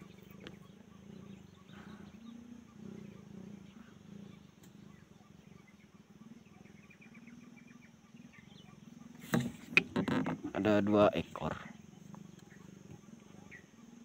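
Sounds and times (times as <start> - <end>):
low pulsing animal calls: 0.0 - 14.0.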